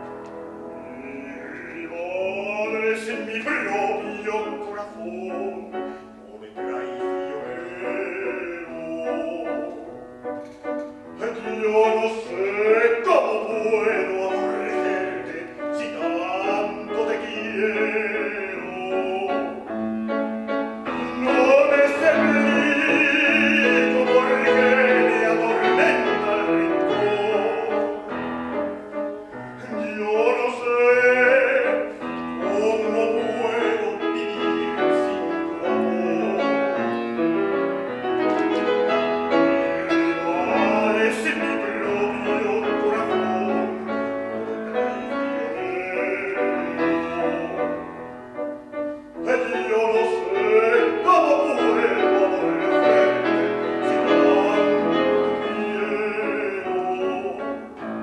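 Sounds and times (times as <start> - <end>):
grand piano: 0.0 - 58.0
man singing operatically: 0.0 - 58.0.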